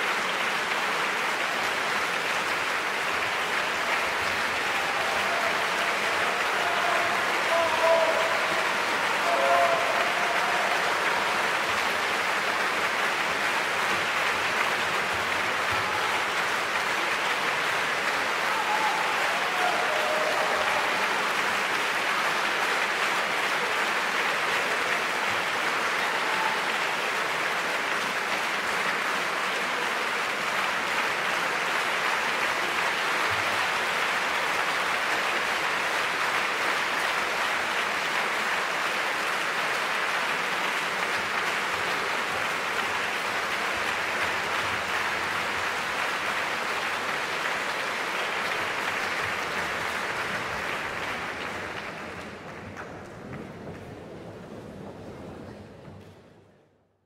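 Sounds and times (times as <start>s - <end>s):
large audience applauding: 0.0s - 56.2s.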